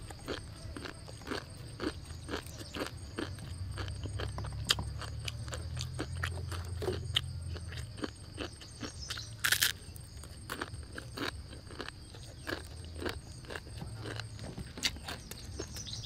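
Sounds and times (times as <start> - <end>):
chewing dry noodles: 0.0 - 16.0.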